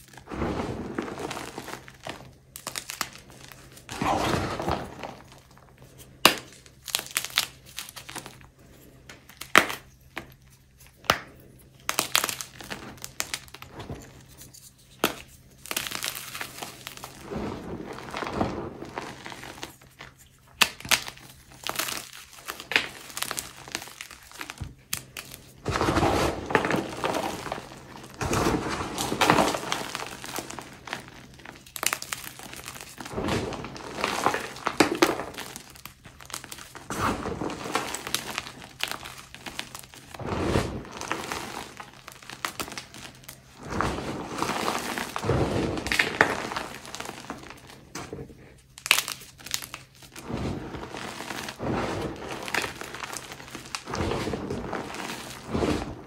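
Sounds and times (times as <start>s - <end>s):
chalk crunching and crackling: 0.0s - 56.0s.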